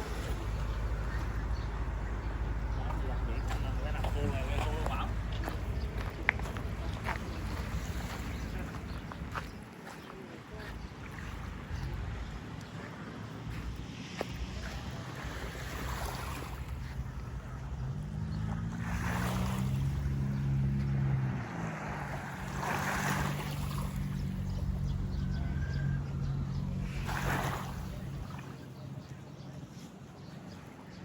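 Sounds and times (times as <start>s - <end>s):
engine running: 0.0s - 9.6s, 13.4s - 29.2s.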